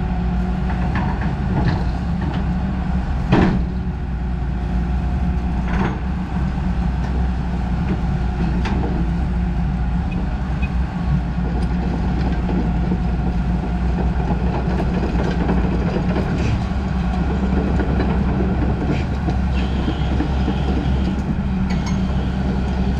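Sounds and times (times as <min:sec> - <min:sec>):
excavator diesel engine idling: 0:00.0 - 0:22.9.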